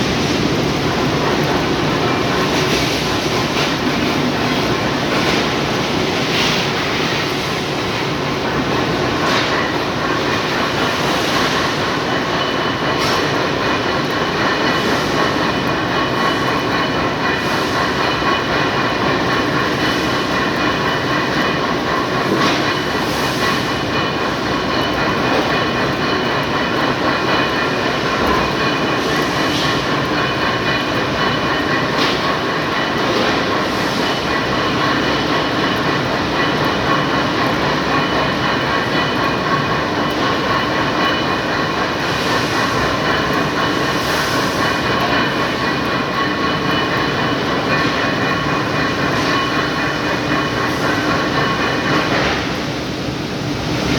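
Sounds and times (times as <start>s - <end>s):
lathe rattling and whining: 0.0s - 53.9s.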